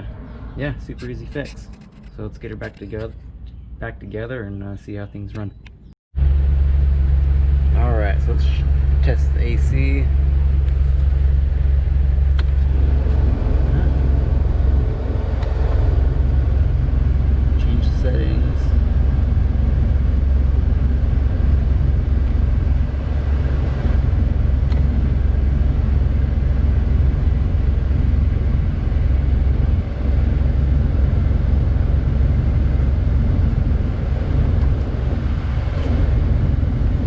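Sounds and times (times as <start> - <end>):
blower fan rushing air: 6.2 - 37.0
car engine idling: 6.2 - 37.0.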